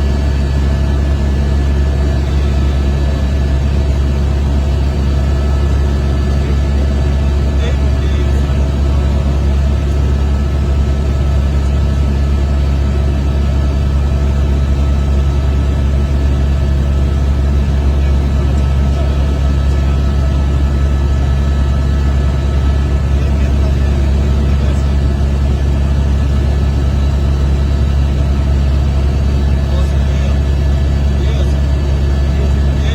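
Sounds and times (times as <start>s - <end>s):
helicopter rotor and engine drone: 0.0s - 32.9s
high turbine whine: 0.0s - 32.9s.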